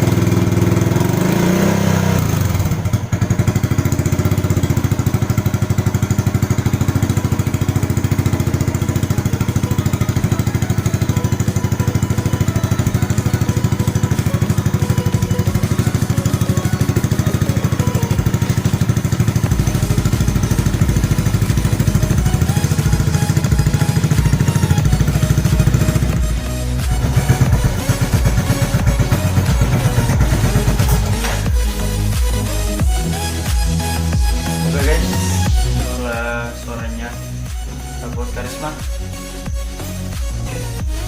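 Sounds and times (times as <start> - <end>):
motorcycle engine running steadily: 0.0 - 41.0.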